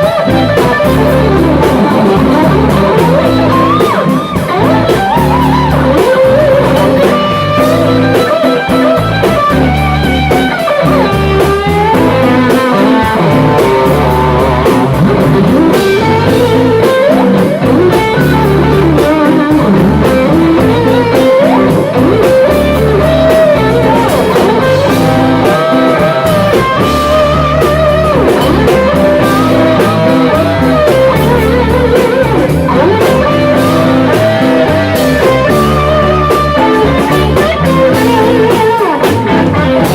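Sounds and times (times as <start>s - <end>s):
electric guitar lead lines: 0.0s - 39.9s
rock band playing live: 0.0s - 39.9s.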